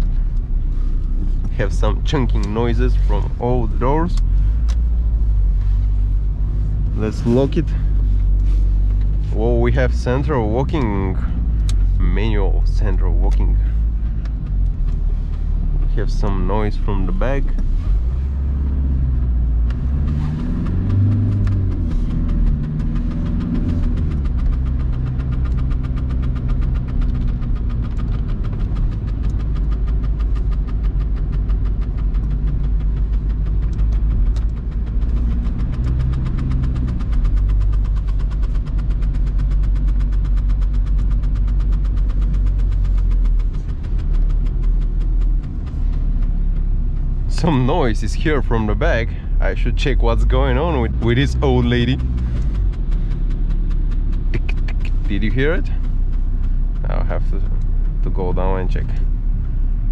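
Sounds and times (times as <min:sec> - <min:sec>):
diesel engine drone inside car: 0:00.0 - 0:59.9.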